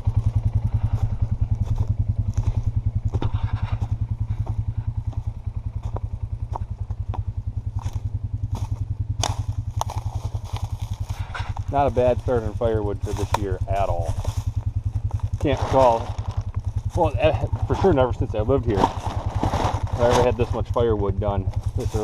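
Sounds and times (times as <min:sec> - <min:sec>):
rustles: 0:00.0 - 0:20.8, 0:21.4 - 0:22.0
engine idling: 0:00.0 - 0:22.0.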